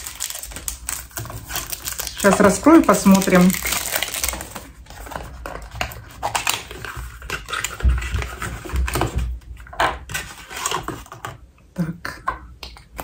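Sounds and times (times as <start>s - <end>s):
packaging rustling and scratching: 0.0s - 11.4s.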